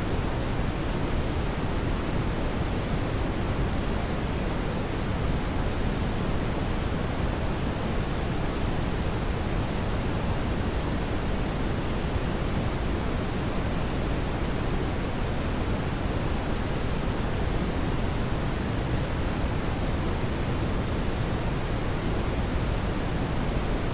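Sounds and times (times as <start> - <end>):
brown noise hiss: 0.0 - 23.9.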